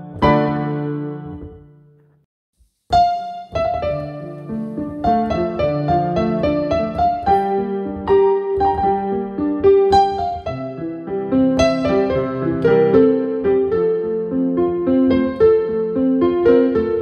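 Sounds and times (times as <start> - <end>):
piano melody over chords: 0.0 - 2.1, 2.9 - 17.0.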